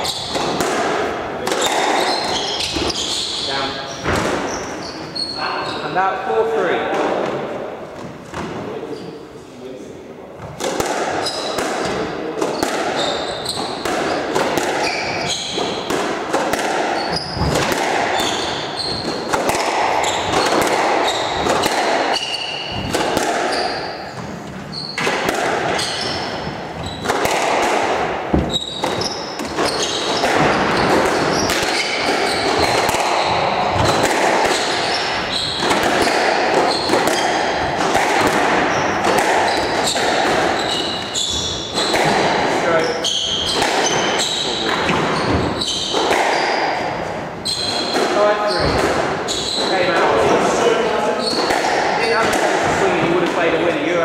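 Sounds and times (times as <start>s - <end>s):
shoes squeaking on wooden floor: 0.0s - 0.8s, 1.4s - 6.1s, 10.4s - 53.8s
squash ball smacking: 0.0s - 3.3s, 4.0s - 4.8s, 10.4s - 54.0s.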